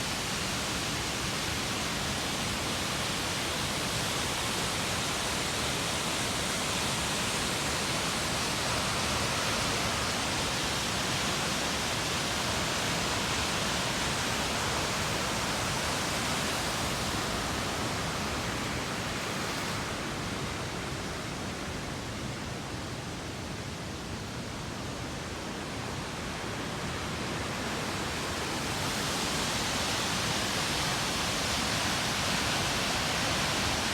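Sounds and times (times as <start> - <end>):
waterfall rushing: 0.2 - 21.8, 25.4 - 33.9.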